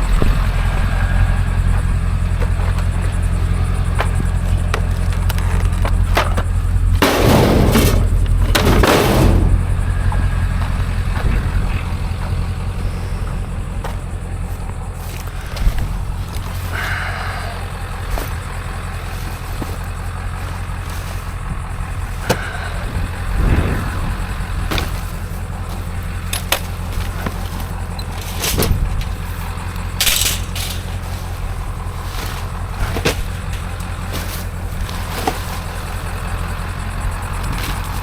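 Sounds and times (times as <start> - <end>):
vehicle engine and road rumble: 0.0 - 38.0
sharp clicks and rattles: 1.6 - 12.7, 13.3 - 38.0.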